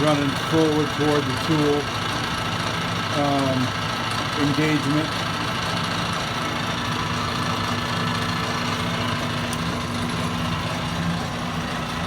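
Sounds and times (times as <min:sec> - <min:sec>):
lathe motor humming: 0:00.0 - 0:12.0.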